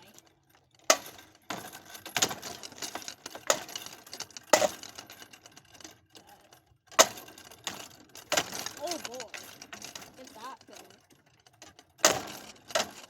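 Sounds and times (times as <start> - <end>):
rattling: 0.0 - 13.0.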